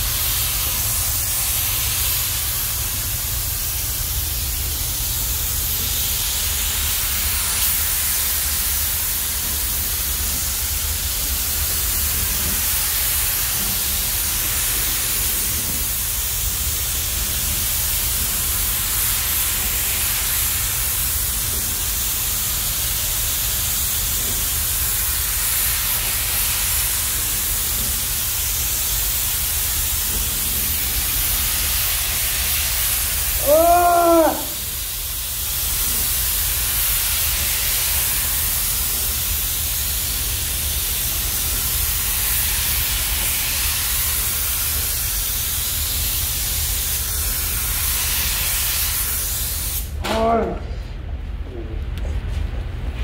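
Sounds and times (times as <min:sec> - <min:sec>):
spray guns hissing: 0:00.0 - 0:50.0.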